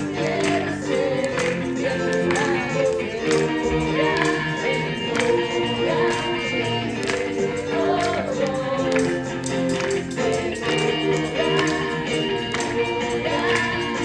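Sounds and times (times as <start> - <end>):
group singing worship song: 0.0 - 14.0
instrumental accompaniment: 0.0 - 14.0
tambourine beat: 0.0 - 14.0.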